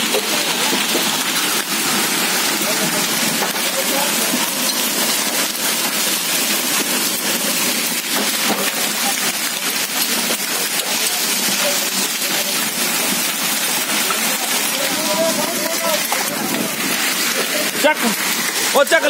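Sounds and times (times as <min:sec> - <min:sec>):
hailstones ticking: 0:00.0 - 0:19.0
heavy rain on concrete: 0:00.0 - 0:19.0.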